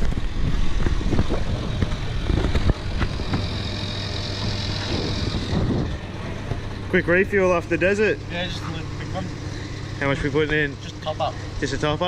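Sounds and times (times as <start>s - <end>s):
low hum: 0.0s - 11.7s
fuel pump whine: 0.0s - 12.0s.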